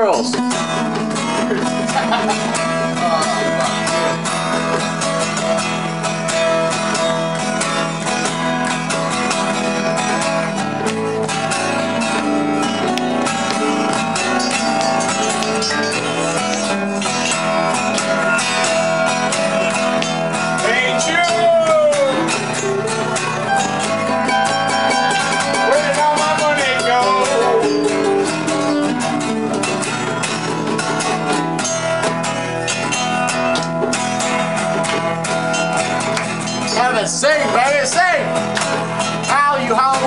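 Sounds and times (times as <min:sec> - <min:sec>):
guitar strumming: 0:00.0 - 0:40.0.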